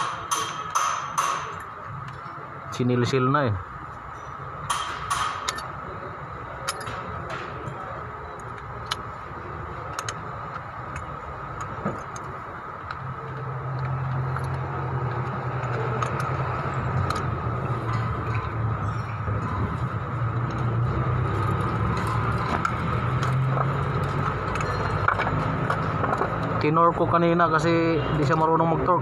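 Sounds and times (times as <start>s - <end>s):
vehicle engine running: 5.2s - 29.0s.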